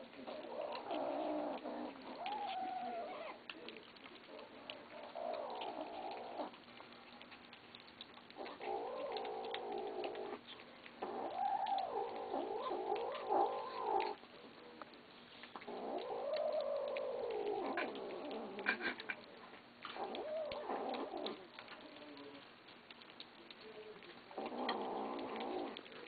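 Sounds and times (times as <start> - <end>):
kittens growling: 0.0 - 14.9, 15.5 - 19.3, 19.9 - 22.6, 23.8 - 26.0.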